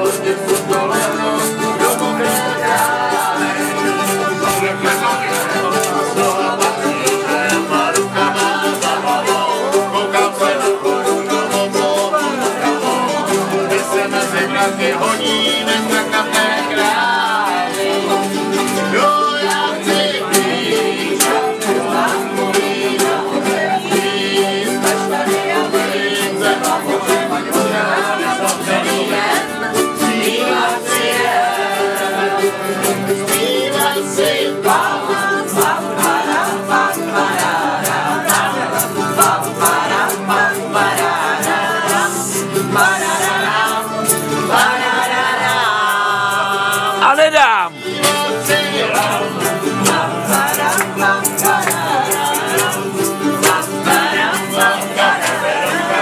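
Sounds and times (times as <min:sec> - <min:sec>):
acoustic string-band music: 0:00.0 - 0:56.0.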